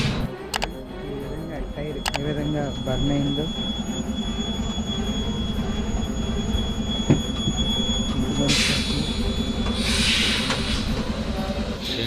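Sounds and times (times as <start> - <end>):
high-pitched whine: 0.0 - 12.0
truck diesel engine throbbing: 0.0 - 12.0.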